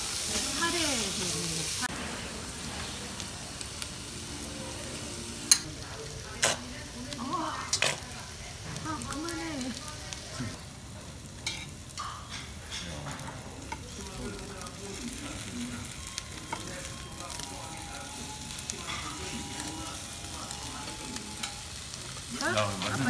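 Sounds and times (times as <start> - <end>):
beef sizzling on grill: 0.0 - 23.0.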